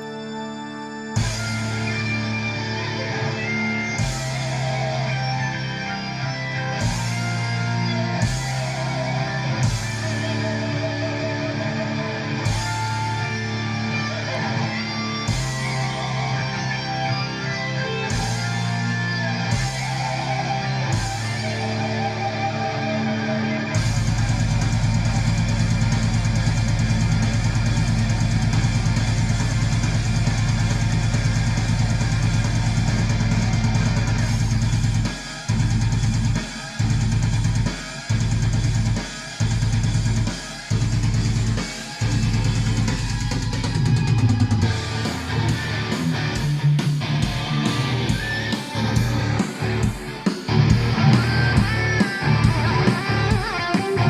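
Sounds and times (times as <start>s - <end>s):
instrumental rock music: 0.0s - 54.0s.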